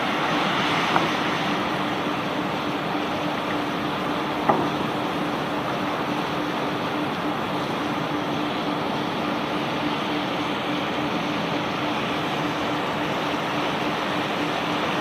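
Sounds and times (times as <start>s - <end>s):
constant machine hum: 0.0s - 15.0s
conveyor carrying rock: 0.0s - 15.0s.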